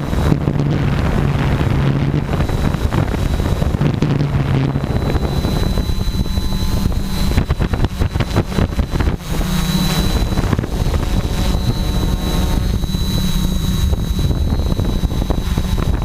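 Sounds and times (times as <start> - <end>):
drone motors whining: 0.0 - 16.0
wind buffeting microphone: 0.0 - 16.0.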